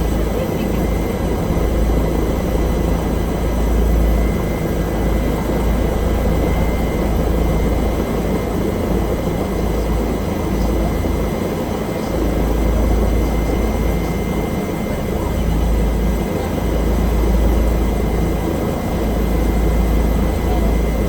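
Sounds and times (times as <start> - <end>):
helicopter cabin drone: 0.0 - 21.0.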